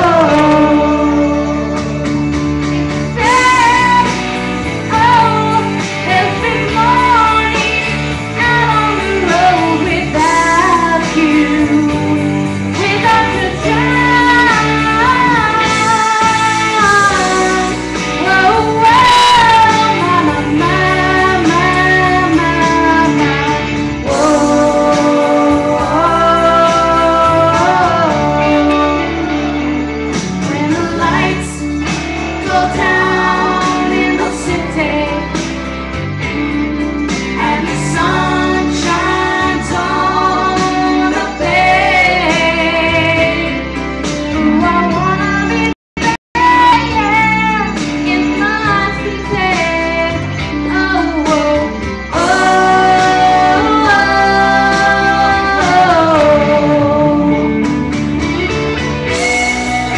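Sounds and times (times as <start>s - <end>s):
woman singing: 0.0s - 2.2s, 3.1s - 35.4s, 37.2s - 43.7s, 44.3s - 57.7s
guitar music: 0.0s - 59.9s.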